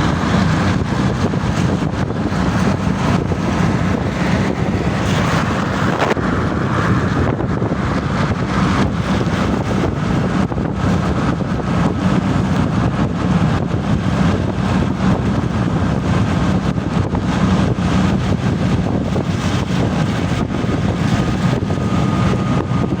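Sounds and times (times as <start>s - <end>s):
vehicle rumble: 0.0s - 23.0s
wind noise on microphone: 0.0s - 23.0s.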